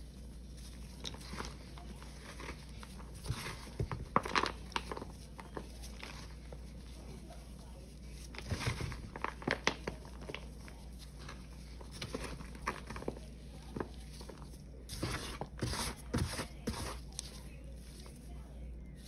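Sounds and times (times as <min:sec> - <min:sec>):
dry paste crackling and crunching: 0:00.0 - 0:19.0
grainy rubbing: 0:00.0 - 0:19.0.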